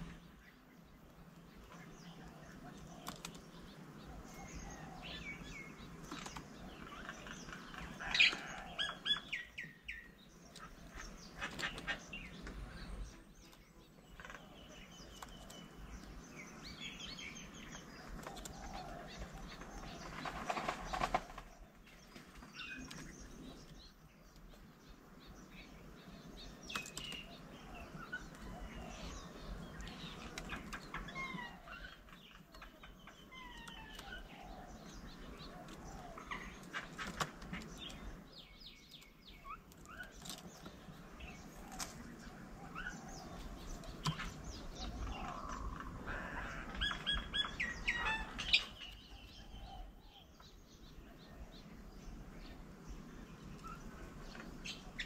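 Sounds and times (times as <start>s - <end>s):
birds chirping and whistling: 0.0s - 24.0s, 24.8s - 55.0s.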